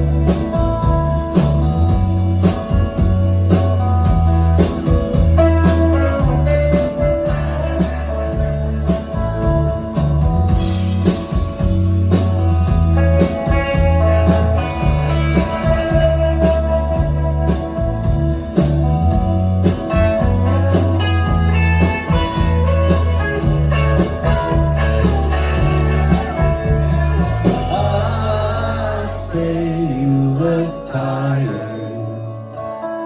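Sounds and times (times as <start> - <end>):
live rock band playing: 0.0 - 33.0
wavering guitar line: 0.0 - 33.0.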